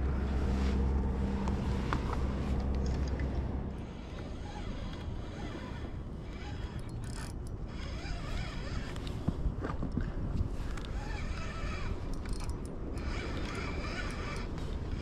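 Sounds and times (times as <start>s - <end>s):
boat engine humming: 0.0s - 15.0s
outdoor noise: 0.0s - 15.0s.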